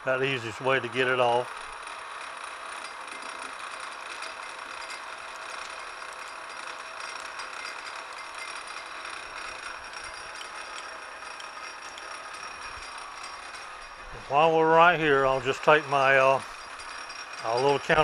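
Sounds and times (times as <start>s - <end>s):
metal lathe cutting: 0.0s - 18.0s.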